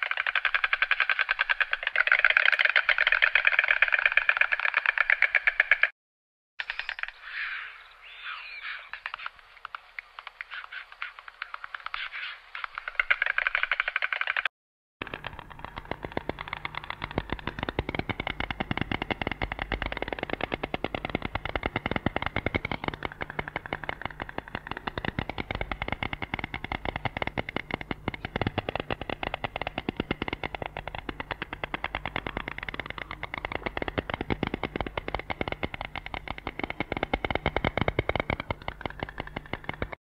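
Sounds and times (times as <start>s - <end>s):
stork bill-clattering: 0.0s - 5.9s, 8.9s - 40.0s.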